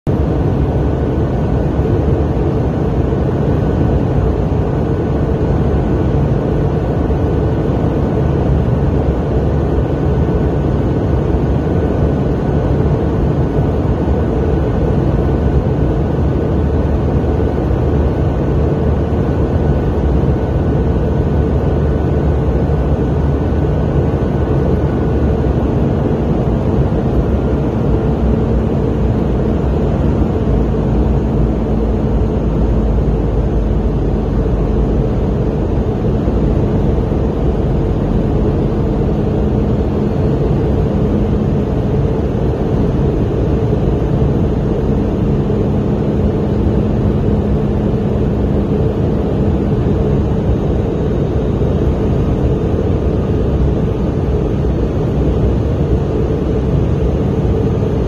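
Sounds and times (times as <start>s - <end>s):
low hum: 0.0s - 58.0s
jet cabin engine roar: 0.1s - 58.0s.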